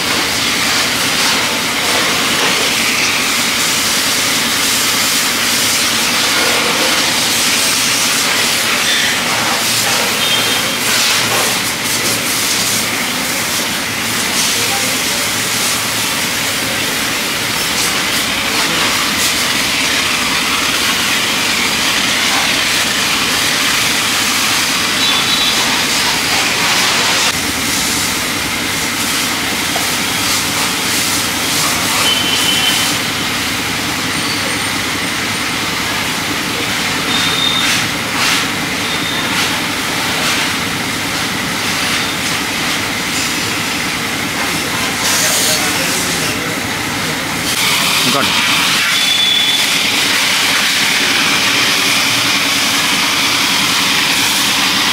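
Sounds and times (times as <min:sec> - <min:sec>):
pressure washer spray hissing: 0:00.0 - 0:54.9.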